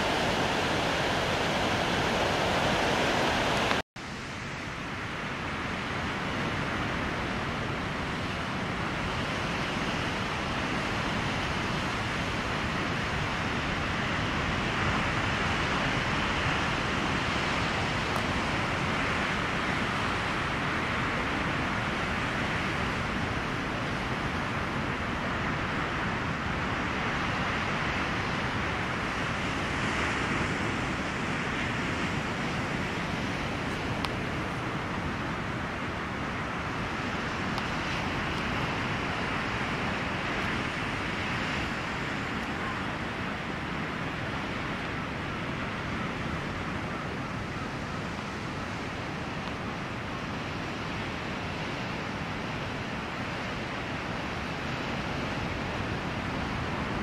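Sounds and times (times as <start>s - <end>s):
rough sea rushing: 0.0s - 57.0s
wind: 0.0s - 57.0s.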